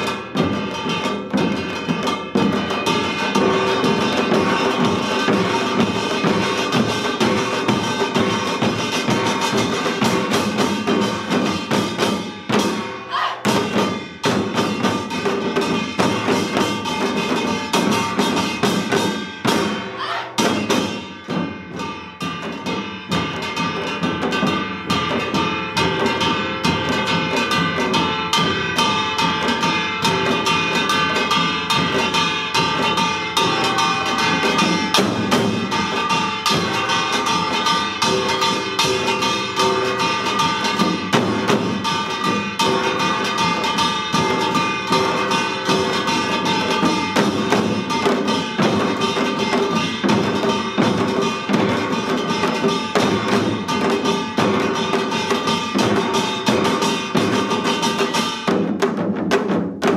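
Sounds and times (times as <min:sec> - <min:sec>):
ringing gongs: 0:00.0 - 0:58.5
hourglass drums: 0:00.0 - 0:59.0
barrel drums: 0:00.0 - 0:59.9.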